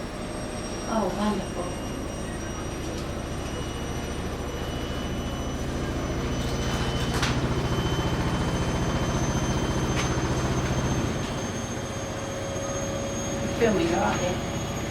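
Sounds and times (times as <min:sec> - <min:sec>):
machine hum with low pulsing: 0:00.0 - 0:14.9.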